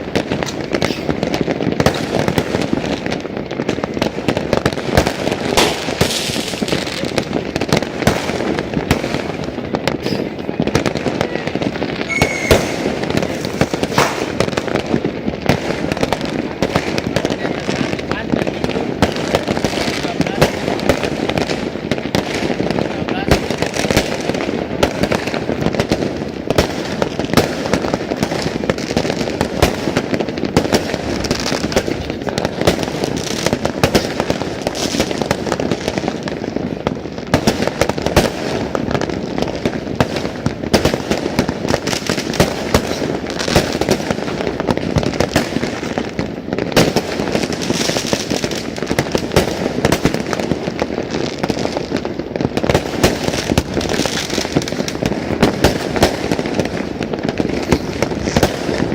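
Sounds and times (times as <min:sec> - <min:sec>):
fireworks crackling and banging: 0:00.0 - 0:58.9.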